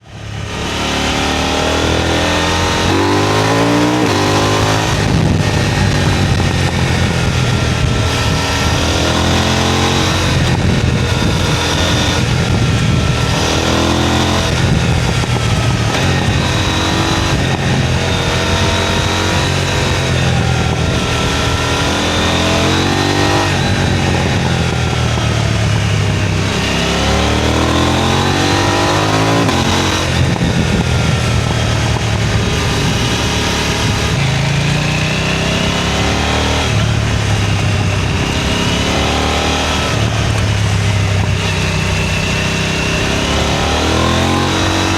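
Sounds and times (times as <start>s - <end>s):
motorcycle engine revving through gears: 0.0s - 44.9s.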